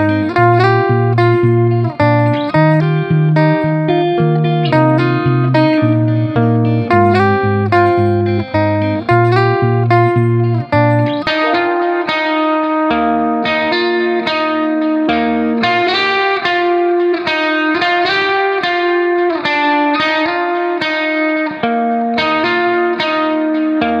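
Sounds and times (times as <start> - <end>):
plucked guitar melody: 0.0 - 24.0.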